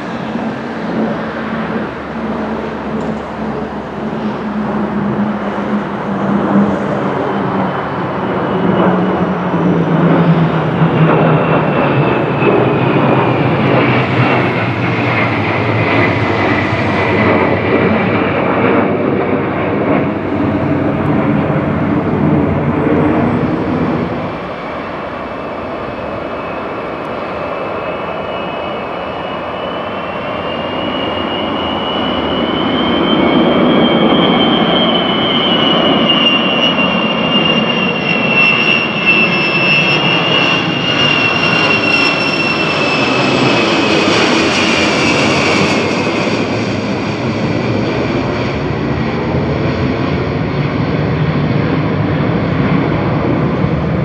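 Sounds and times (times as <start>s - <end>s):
high turbine whine: 0.0s - 54.0s
jet aircraft flying past: 0.0s - 54.0s.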